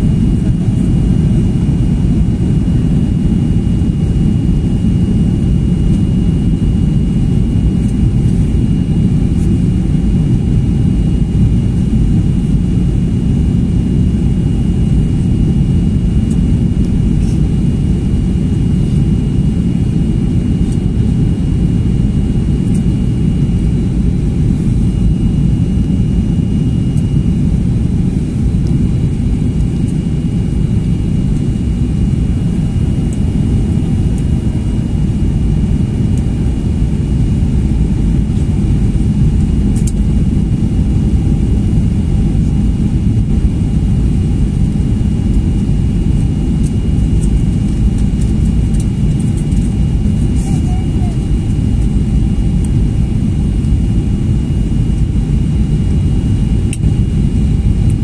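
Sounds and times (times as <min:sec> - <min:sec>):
jet engine and airflow roar: 0:00.0 - 0:58.0.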